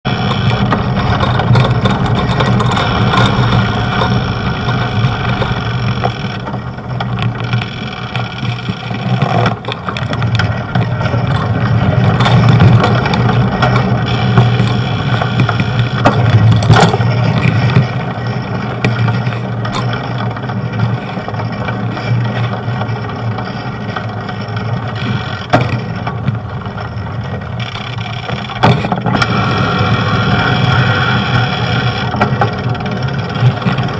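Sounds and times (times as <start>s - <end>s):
street traffic: 0.0s - 33.9s.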